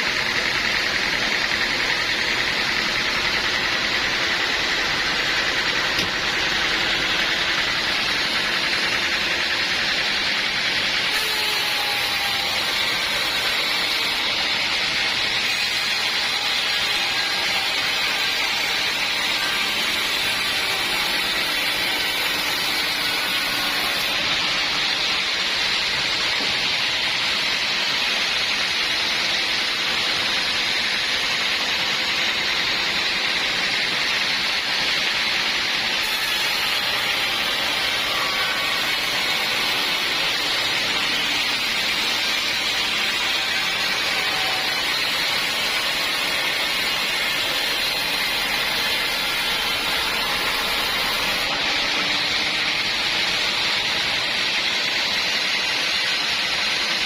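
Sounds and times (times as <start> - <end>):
saw cutting through wood: 0.0 - 57.0.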